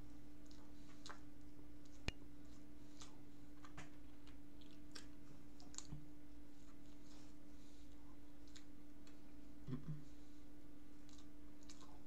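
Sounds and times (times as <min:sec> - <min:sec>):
steady low hum: 0:00.0 - 0:12.0
person chewing: 0:00.4 - 0:06.0, 0:06.6 - 0:10.0, 0:11.0 - 0:12.0.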